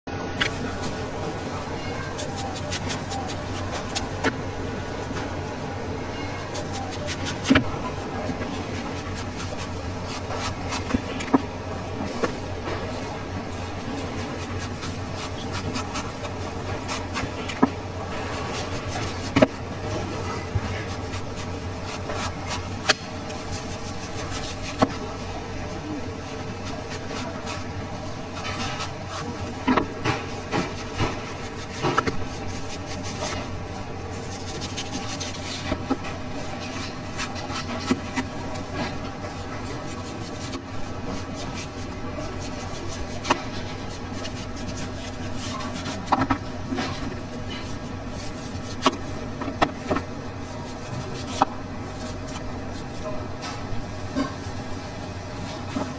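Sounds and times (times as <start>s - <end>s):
steady background hum: 0.1s - 55.9s
knife slicing watermelon rind: 2.0s - 4.4s, 6.2s - 54.8s.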